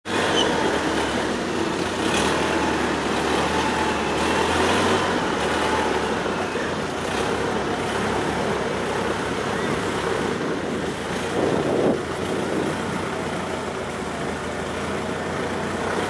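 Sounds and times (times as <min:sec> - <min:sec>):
motorboat engine humming: 0:00.0 - 0:16.0
water rushing along hull: 0:00.1 - 0:16.0.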